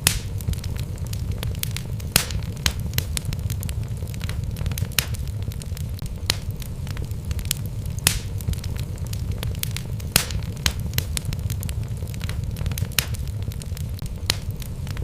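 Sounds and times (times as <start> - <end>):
crackles and pops of logs: 0.0 - 15.0
wood fire burning: 0.0 - 15.0.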